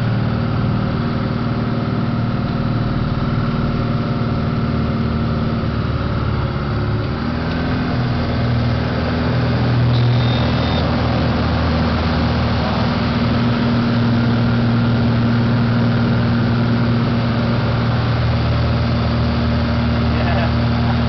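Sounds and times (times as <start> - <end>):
light aircraft engine droning: 0.0 - 21.0.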